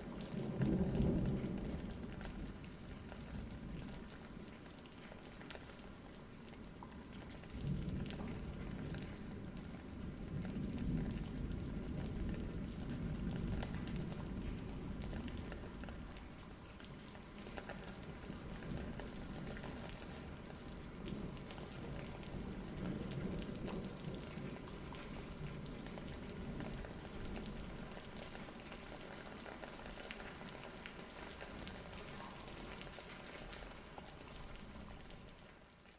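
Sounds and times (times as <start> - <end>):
rain patter: 0.0 - 35.9.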